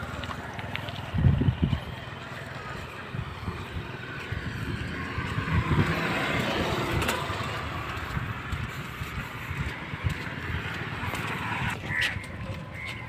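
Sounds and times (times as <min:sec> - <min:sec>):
motorcycles passing: 0:00.0 - 0:13.0.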